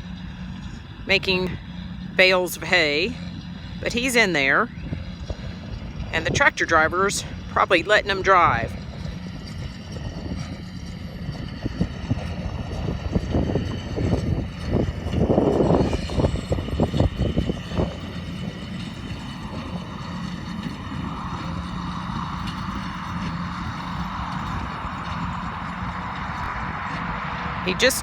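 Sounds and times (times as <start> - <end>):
hay baler rumbling bursts: 0.0 - 28.0
tractor engine running: 0.0 - 28.0.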